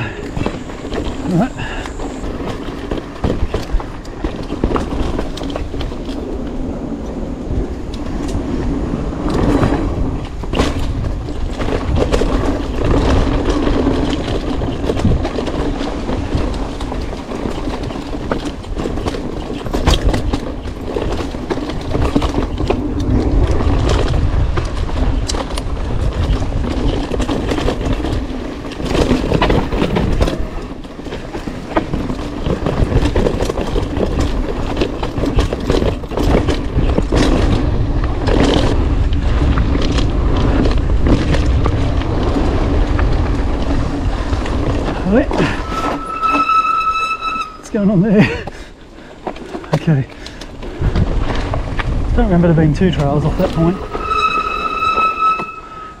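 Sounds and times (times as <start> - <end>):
bike rattling clicks and knocks: 0.0 - 54.0
bike tyres rolling on dirt: 0.0 - 56.0.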